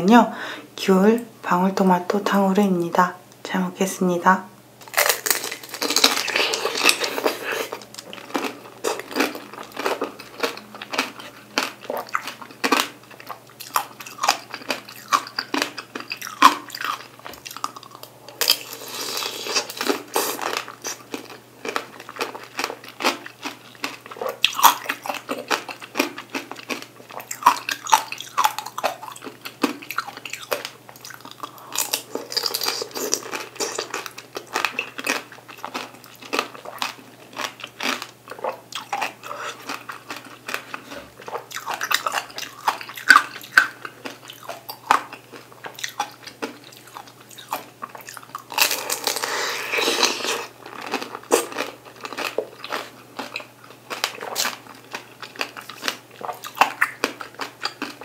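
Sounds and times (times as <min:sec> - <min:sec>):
chewing oranges: 0:04.9 - 0:58.0.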